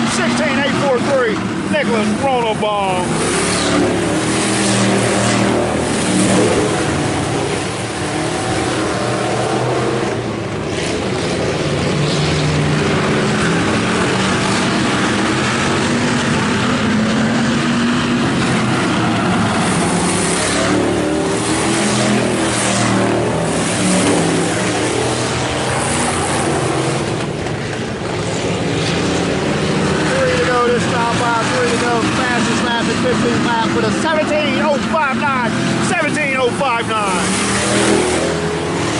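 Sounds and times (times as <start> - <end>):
race car engines passing: 0.0 - 38.9.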